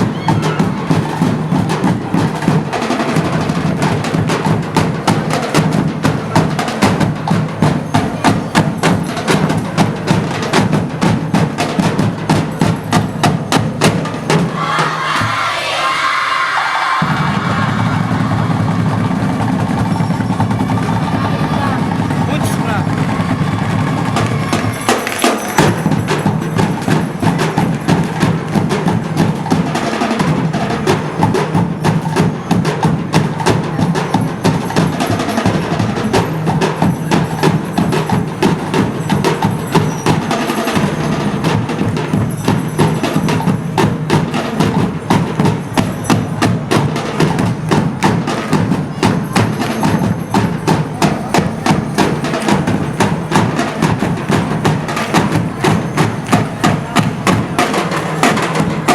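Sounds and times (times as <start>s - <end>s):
fast percussion music: 0.0s - 15.6s, 17.0s - 58.9s.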